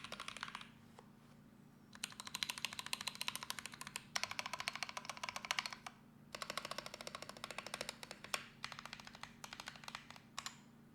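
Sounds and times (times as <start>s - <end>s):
typing on mechanical keyboard: 0.0s - 0.7s, 2.0s - 10.6s.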